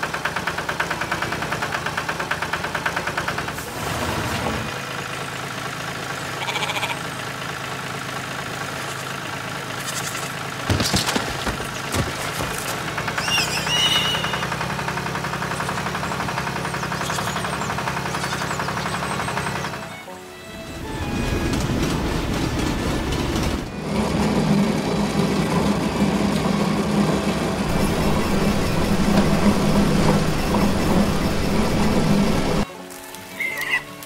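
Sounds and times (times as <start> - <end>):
tractor engine chugging: 0.0 - 3.9, 4.6 - 32.7.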